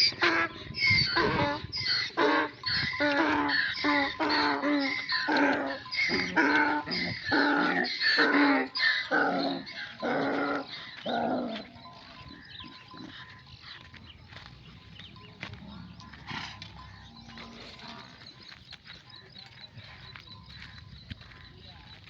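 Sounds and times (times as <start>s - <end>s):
animal calling: 0.0s - 22.0s.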